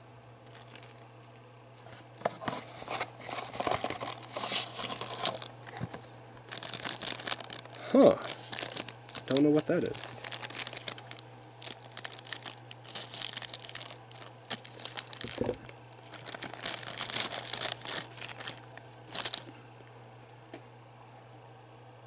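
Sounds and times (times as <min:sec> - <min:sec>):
plastic bag crinkling and tearing: 0:00.4 - 0:01.0, 0:02.3 - 0:19.5.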